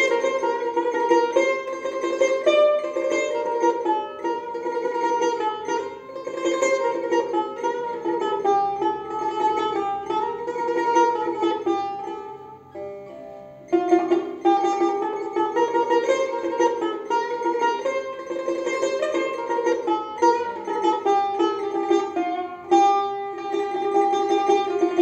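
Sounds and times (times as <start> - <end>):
plucked lute improvising: 0.0 - 25.0.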